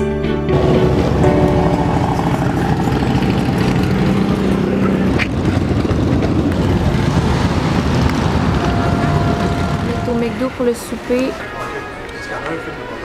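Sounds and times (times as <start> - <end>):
motorcycle engines rumbling: 0.5 - 12.1.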